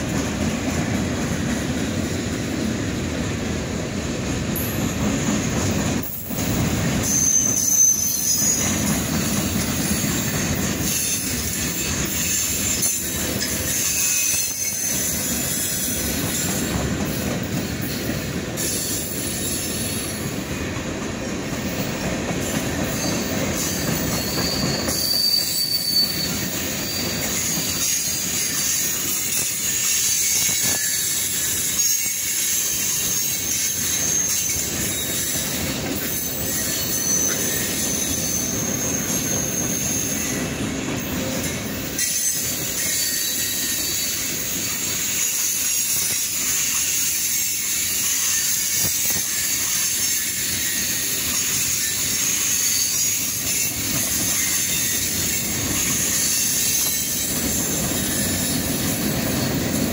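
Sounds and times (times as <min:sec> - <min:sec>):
freight train wheels rumbling: 0:00.0 - 0:59.9
high wheel squeal: 0:06.0 - 0:20.3, 0:21.8 - 0:59.9.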